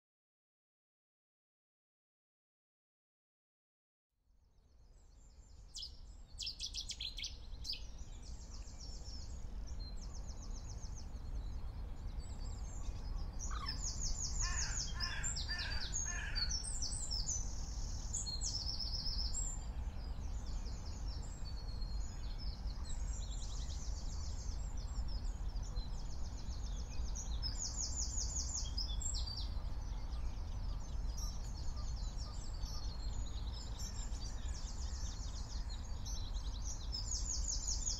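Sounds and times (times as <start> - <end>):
songbirds singing: 4.6 - 37.9.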